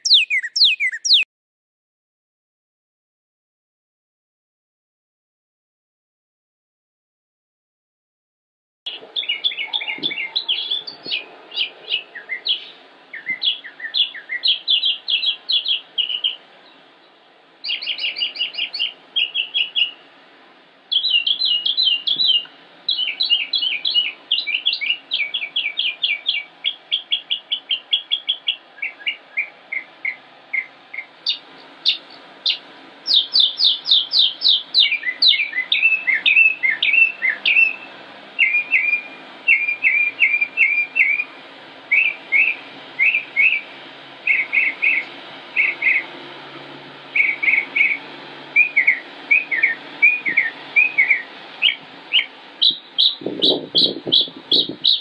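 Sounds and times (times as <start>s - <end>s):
songbird singing: 0.0s - 1.3s, 8.9s - 20.2s, 20.9s - 46.4s, 47.0s - 55.0s.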